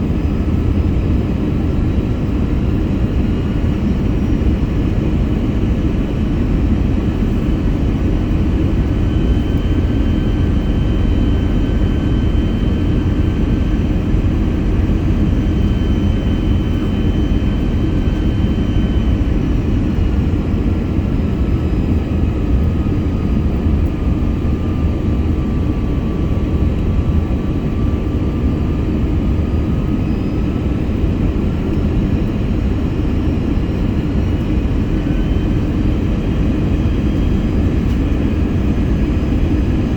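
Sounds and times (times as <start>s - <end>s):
jet cabin rumble and hiss: 0.0s - 39.9s.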